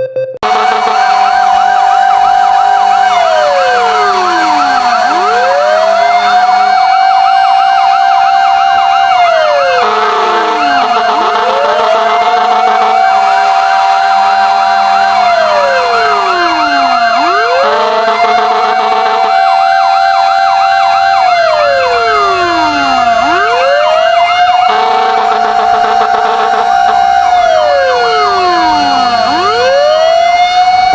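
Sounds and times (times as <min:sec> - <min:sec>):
wailing fire engine siren: 0:00.0 - 0:30.9
yelping sirens: 0:00.0 - 0:30.9.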